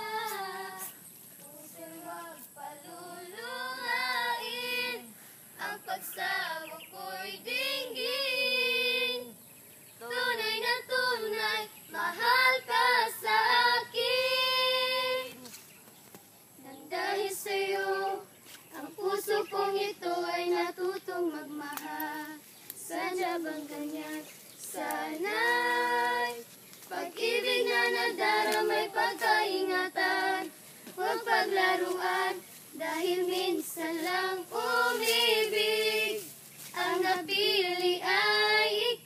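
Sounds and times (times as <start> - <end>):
young voices singing unaccompanied: 0.0 - 15.6, 16.5 - 39.0.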